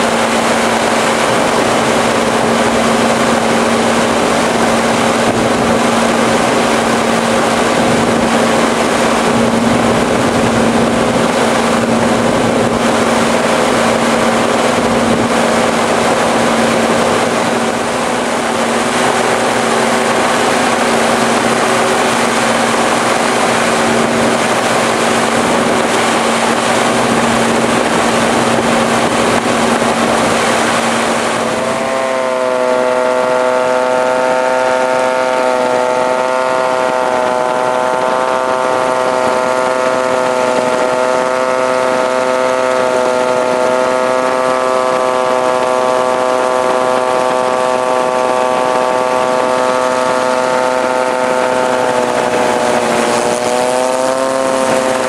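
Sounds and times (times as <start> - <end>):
propeller aircraft engine drone: 0.0 - 55.0
rushing air noise: 0.0 - 55.0.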